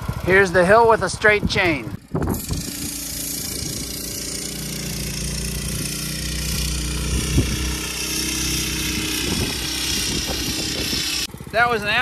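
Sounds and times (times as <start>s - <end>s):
small engine labouring: 0.0s - 12.0s.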